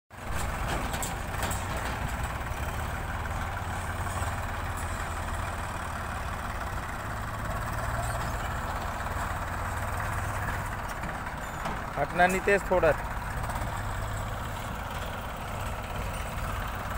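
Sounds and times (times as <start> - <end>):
diesel engines running: 0.1 - 16.9.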